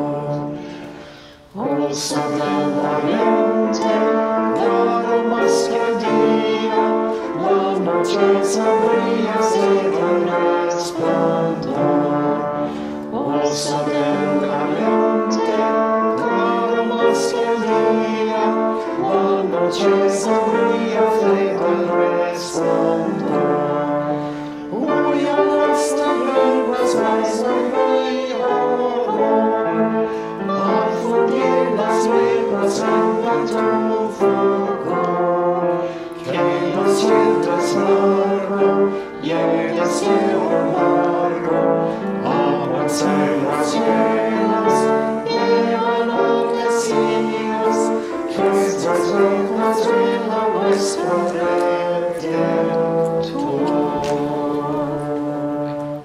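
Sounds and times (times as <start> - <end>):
slow hymn music: 0.0 - 56.0.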